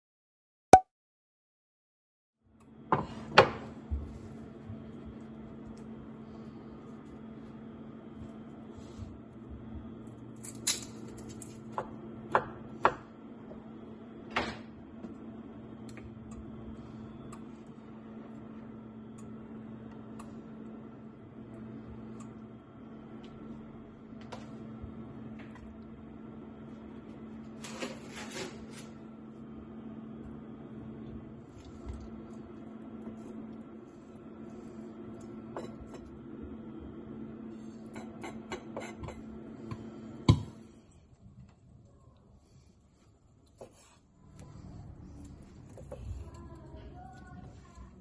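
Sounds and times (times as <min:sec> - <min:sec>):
steady low hum: 0:02.5 - 0:48.0.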